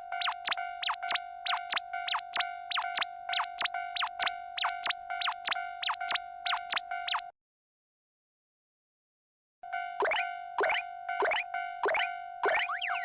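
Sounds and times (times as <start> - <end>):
synthesized crossing alarm: 0.0 - 7.3, 9.6 - 13.0.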